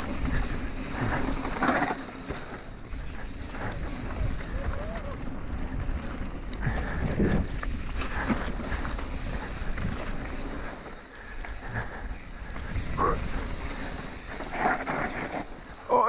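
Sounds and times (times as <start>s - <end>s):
bike clicks and rattles: 0.0s - 16.0s
bike tyres rumbling on dirt: 0.0s - 16.0s
wind buffeting microphone: 2.7s - 15.8s.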